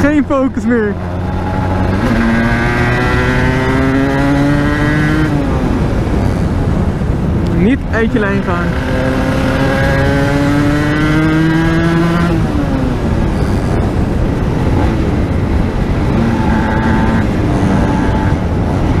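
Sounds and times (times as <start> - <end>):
two-stroke motorcycle engine revving: 0.9 - 7.1, 8.2 - 19.0
wind rush on microphone: 1.0 - 19.0.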